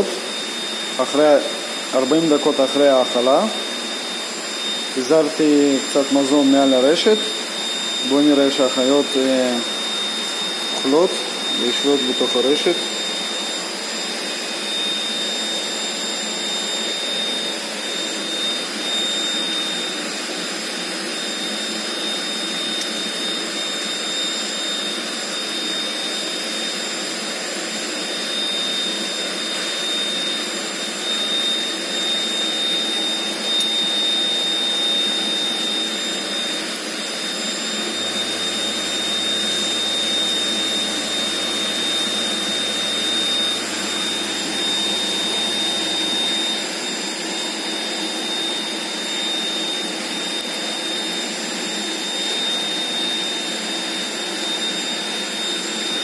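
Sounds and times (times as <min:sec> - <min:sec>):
air blower whirring: 0:00.0 - 0:56.0
high-pitched whines: 0:00.0 - 0:56.0.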